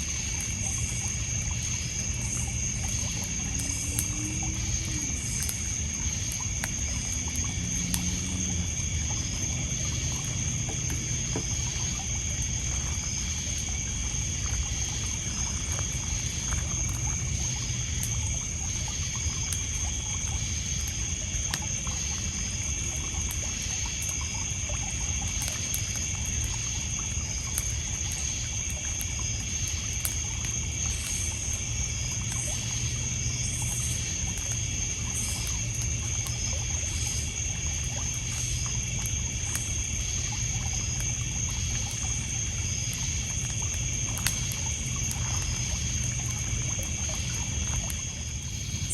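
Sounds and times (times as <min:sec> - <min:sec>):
campfire crackling: 0:00.0 - 0:48.9
crickets trilling: 0:00.0 - 0:48.9
small waves lapping on pebbles: 0:00.0 - 0:48.9.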